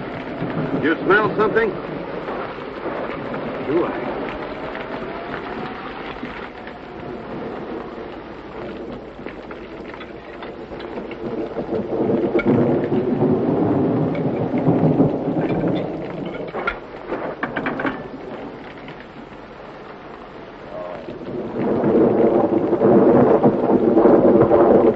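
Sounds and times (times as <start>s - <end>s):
sharp thunder cracks: 0.0s - 19.8s, 20.6s - 24.9s
rain falling: 0.0s - 24.9s
thunder rolling: 0.0s - 24.9s.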